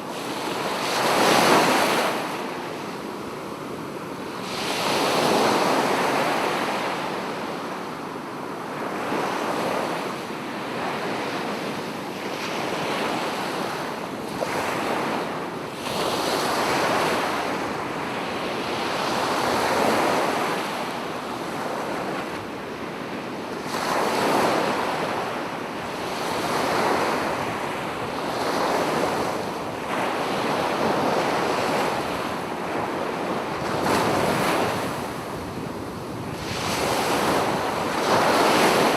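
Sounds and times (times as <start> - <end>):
ocean surf washing ashore: 0.0 - 38.9.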